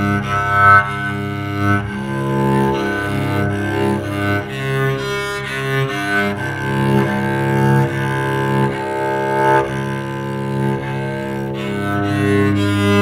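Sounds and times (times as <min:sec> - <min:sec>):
bowed electric cello: 0:00.0 - 0:13.0.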